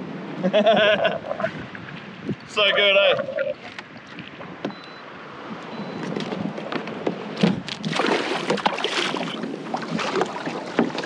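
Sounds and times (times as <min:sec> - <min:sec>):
water splashing around kayak: 0:01.2 - 0:11.0.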